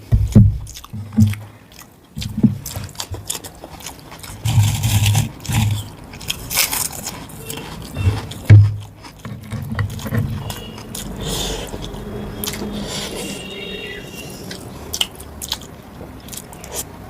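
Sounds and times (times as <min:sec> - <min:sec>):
wet chewing and biting: 0:00.0 - 0:13.6, 0:14.2 - 0:17.0.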